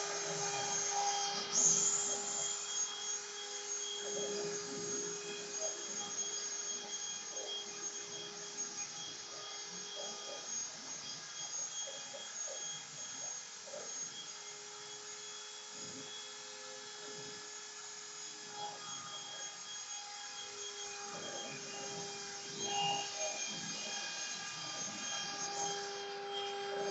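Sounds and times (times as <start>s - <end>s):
router motor whining: 0.0s - 26.9s.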